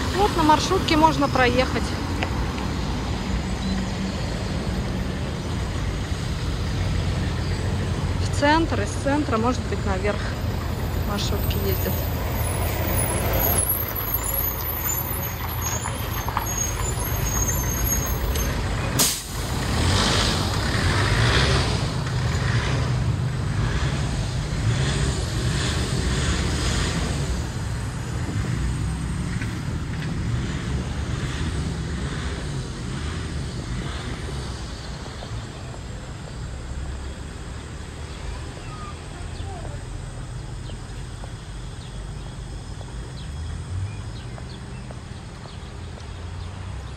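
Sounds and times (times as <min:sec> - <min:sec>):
street traffic rumble: 0:00.0 - 0:46.9.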